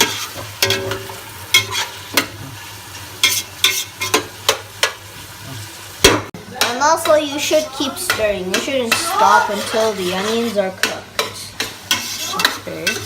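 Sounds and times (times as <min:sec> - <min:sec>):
utensil scraping a pan: 0:00.0 - 0:05.0, 0:07.4 - 0:13.0
onions sizzling in oil: 0:00.0 - 0:13.0.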